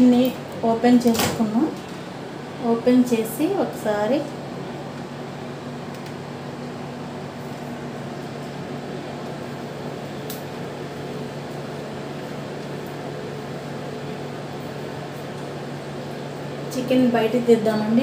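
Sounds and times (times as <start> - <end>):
electric fan hum: 0.0 - 18.0.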